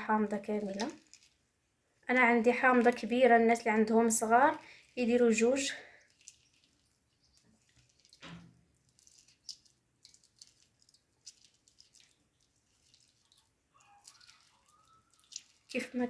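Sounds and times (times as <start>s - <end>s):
lemon juice dripping: 0.0s - 16.0s.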